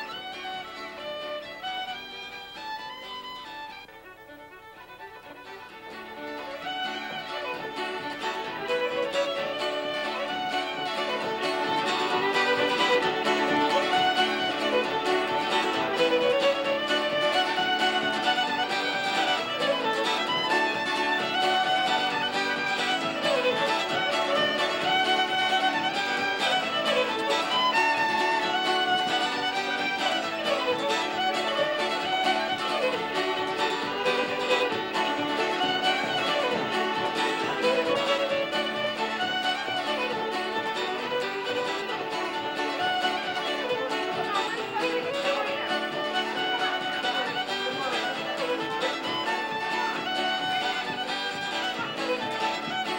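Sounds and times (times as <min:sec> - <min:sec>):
fiddle tune with accompaniment: 0:00.0 - 0:52.9.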